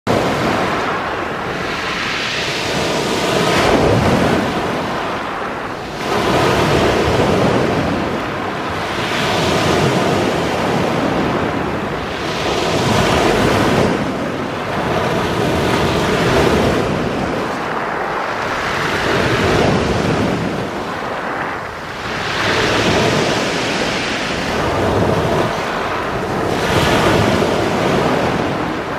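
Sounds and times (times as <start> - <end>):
waves breaking on pebble beach: 0.1 - 28.9.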